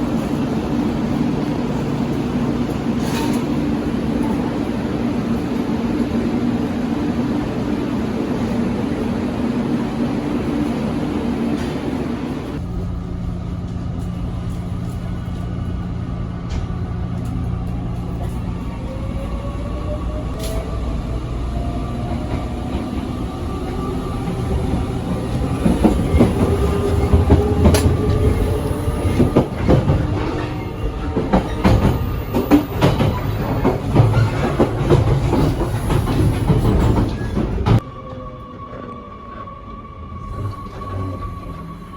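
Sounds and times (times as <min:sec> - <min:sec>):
electric train rumble: 0:00.0 - 0:41.9.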